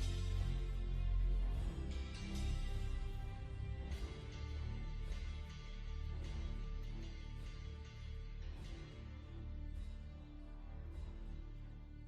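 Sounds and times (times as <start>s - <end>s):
steady low bass: 0.0s - 12.0s.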